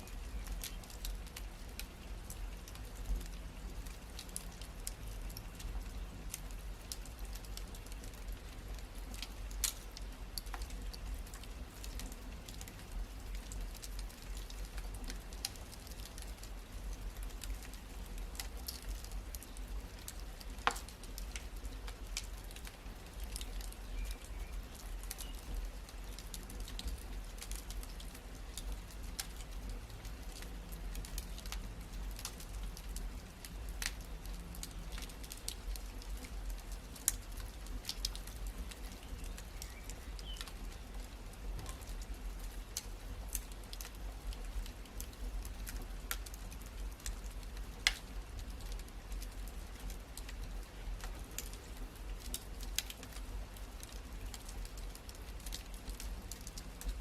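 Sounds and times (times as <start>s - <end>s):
wood fire crackling: 0.0s - 57.0s
fire popping: 0.1s - 57.0s.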